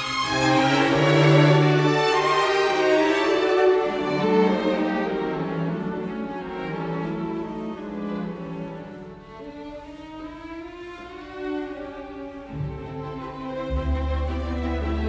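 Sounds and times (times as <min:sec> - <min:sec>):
slow bowed string music: 0:00.0 - 0:15.0.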